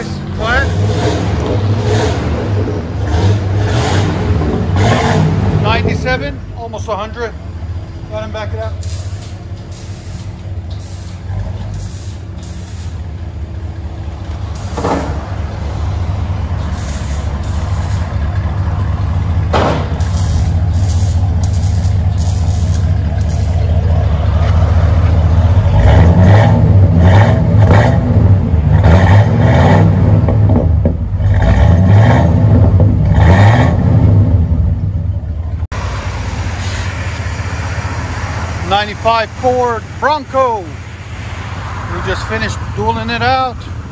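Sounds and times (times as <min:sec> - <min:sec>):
engine idling and revving: 0:00.0 - 0:43.9.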